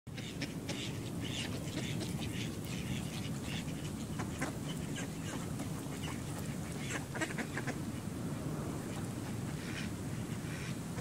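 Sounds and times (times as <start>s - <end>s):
ducks quacking: 0.1s - 8.1s, 8.8s - 11.0s
steady low rumble: 0.2s - 11.0s.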